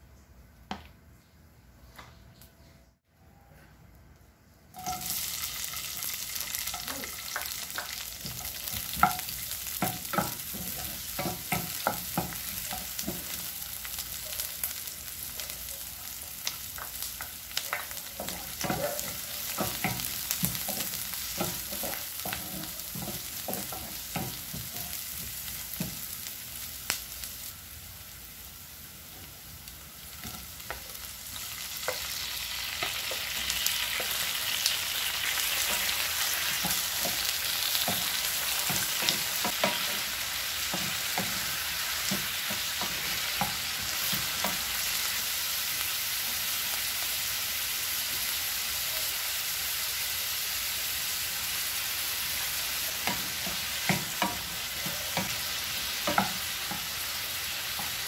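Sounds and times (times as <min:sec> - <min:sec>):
onion sizzling in hot oil: 0:04.8 - 0:58.0.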